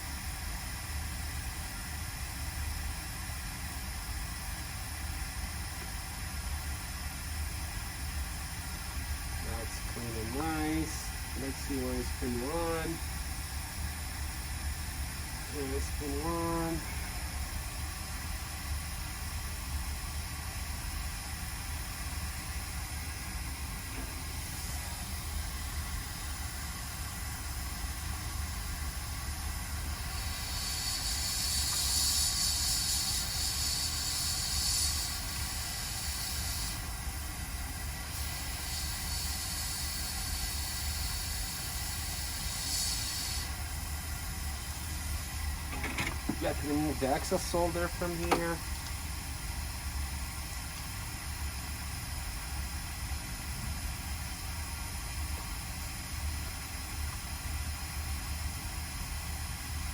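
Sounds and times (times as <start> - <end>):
hot air blower hiss: 0.0 - 59.9.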